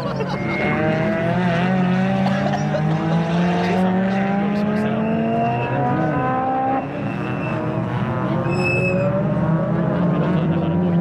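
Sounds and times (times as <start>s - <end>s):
racing car engines accelerating: 0.0s - 11.0s.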